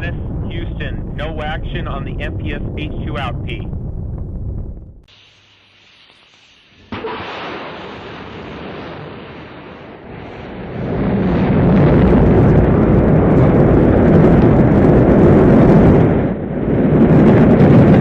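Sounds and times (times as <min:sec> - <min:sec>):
rocket launch roar: 0:00.0 - 0:18.0.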